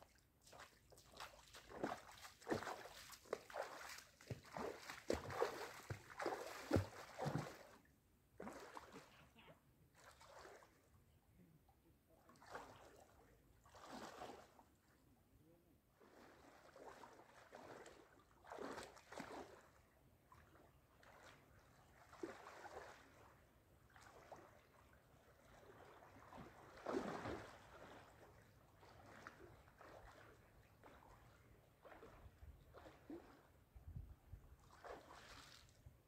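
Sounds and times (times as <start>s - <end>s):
water splashing and sloshing: 0.0s - 9.3s, 9.9s - 11.0s, 12.3s - 15.0s, 15.9s - 36.0s.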